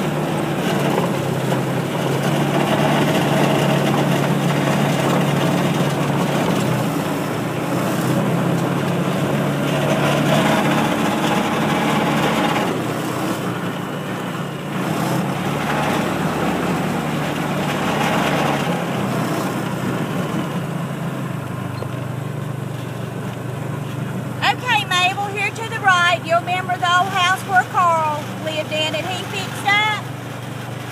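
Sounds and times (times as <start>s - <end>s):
small vehicle engine running: 0.0s - 30.9s.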